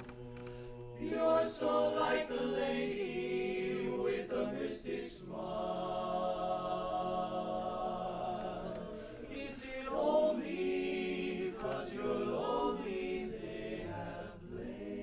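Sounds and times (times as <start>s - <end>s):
male chorus singing a cappella: 0.0s - 15.0s.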